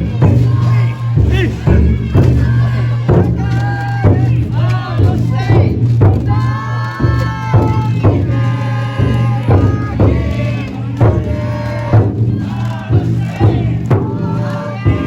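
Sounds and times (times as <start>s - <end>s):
taiko drum beats: 0.0s - 15.0s
voices singing long notes: 0.0s - 15.0s.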